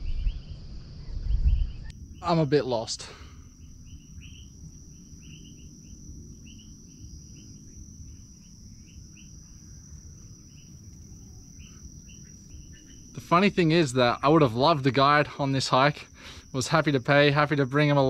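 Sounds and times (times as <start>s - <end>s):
faint low rumble: 0.0s - 14.7s
insect chirps: 0.0s - 18.0s
high-pitched insect drone: 1.6s - 18.0s.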